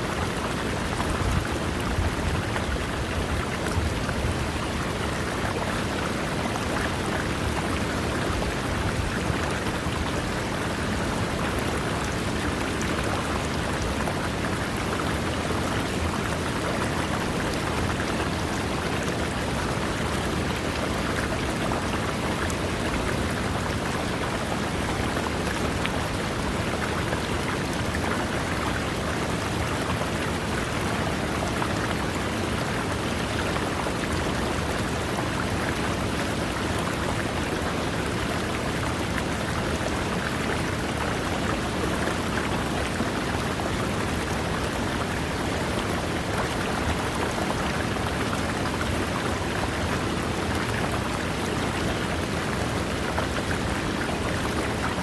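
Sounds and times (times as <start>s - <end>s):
river running over rocks: 0.0s - 55.0s.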